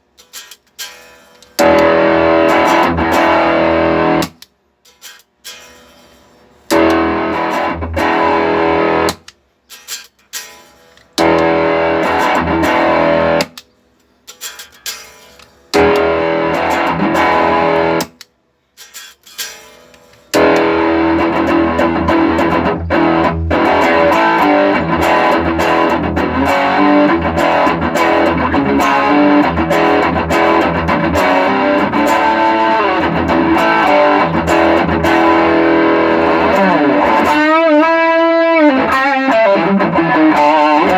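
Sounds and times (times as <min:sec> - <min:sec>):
distorted electric guitar: 0:00.0 - 0:13.6, 0:14.3 - 0:18.2, 0:18.8 - 0:40.9.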